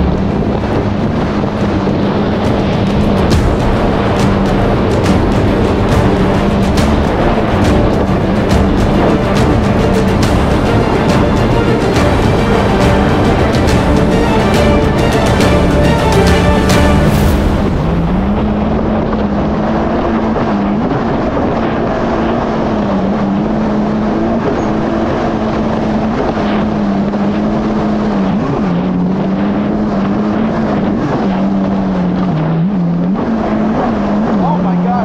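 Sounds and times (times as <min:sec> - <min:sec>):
jet ski engine running: 0:00.0 - 0:35.0
water noise: 0:00.0 - 0:35.0
wind noise: 0:00.0 - 0:35.0.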